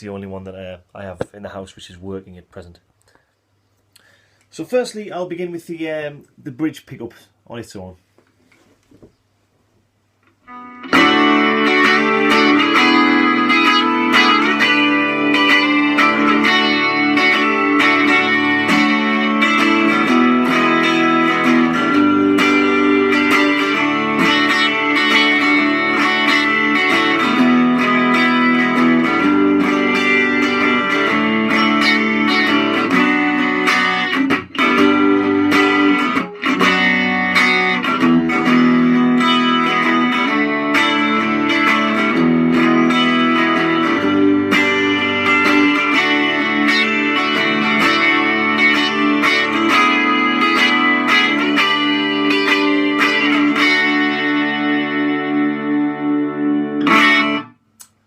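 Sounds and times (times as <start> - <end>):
electric guitar chords ringing: 10.4 - 58.0.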